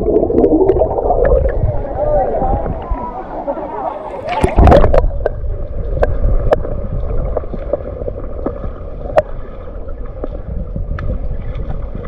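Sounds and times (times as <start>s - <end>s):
wind rumble on microphone: 0.0s - 3.4s, 4.2s - 12.0s
river water gurgling and splashing: 0.0s - 12.0s.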